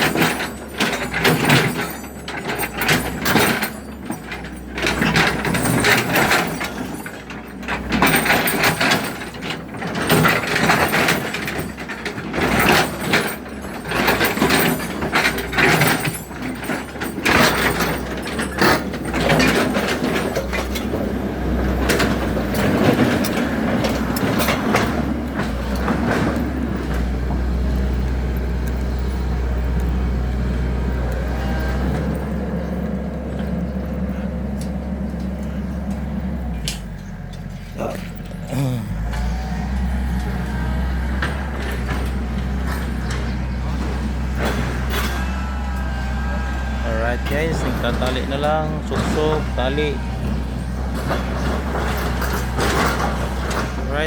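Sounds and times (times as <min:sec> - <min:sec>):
excavator engine running: 0:00.0 - 0:54.0
metal knocks clanks and scrapes: 0:00.0 - 0:54.0.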